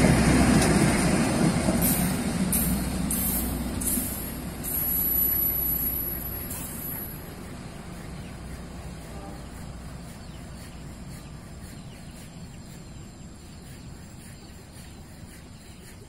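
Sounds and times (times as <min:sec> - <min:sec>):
departing train rumble: 0:00.0 - 0:14.0
birds chirping: 0:01.8 - 0:16.0.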